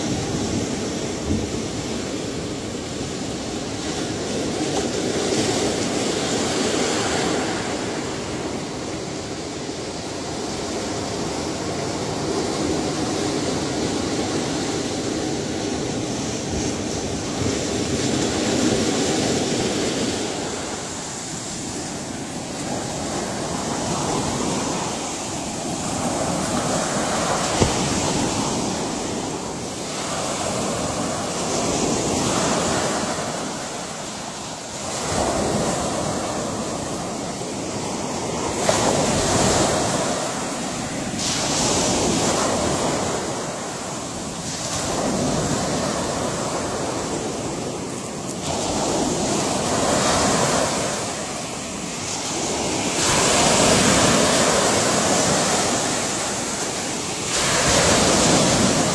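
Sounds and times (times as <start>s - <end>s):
waves breaking and washing in: 0.0s - 58.9s.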